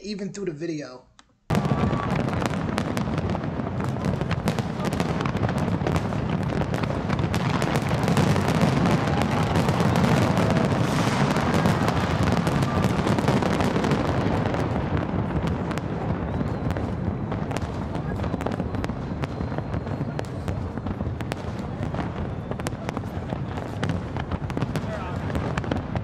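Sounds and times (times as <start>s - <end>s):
fireworks cracks and bangs: 1.5s - 26.0s.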